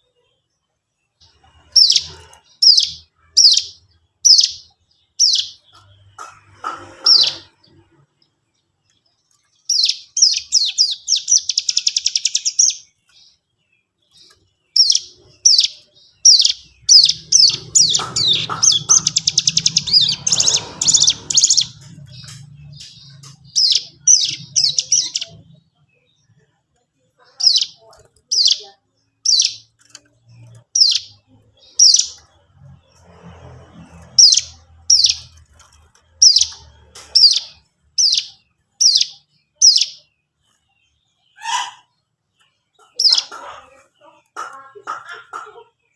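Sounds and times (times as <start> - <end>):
songbird chirping and trilling: 0.0 - 45.9.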